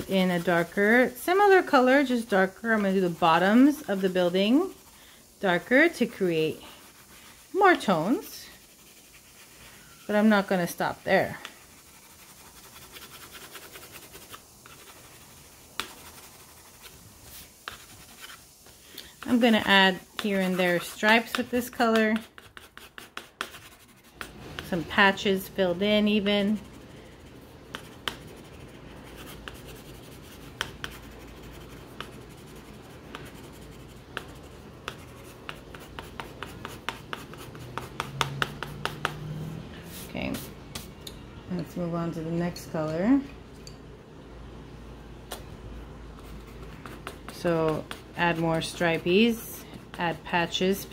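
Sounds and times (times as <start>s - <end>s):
crayon scratching on paper: 0.0s - 18.4s, 19.2s - 39.2s, 46.2s - 50.9s.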